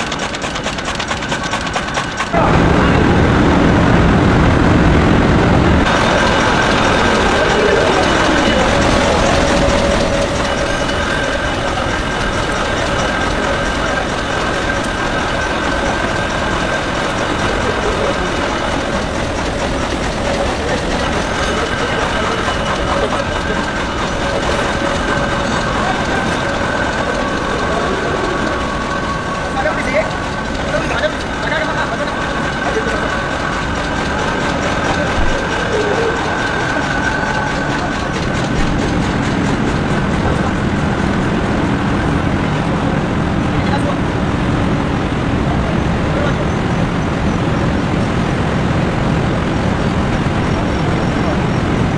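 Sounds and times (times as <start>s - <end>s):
mechanical din: 0.0s - 41.7s
industrial machine noise: 0.0s - 51.9s.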